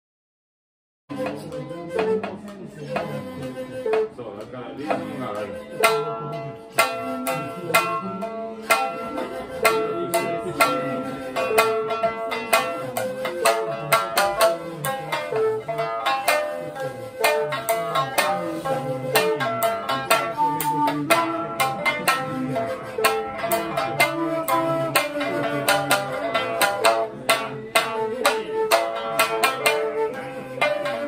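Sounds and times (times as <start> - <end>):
bamboo flute long notes: 1.1 - 31.0
shamisen plucking: 1.1 - 31.0.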